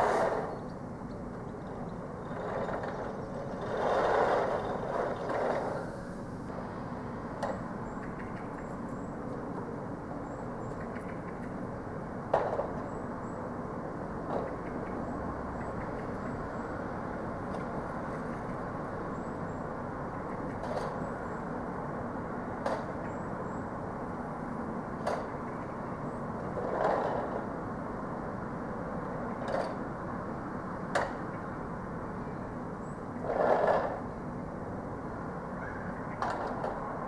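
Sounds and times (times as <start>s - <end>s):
steady background hum: 0.0s - 37.0s.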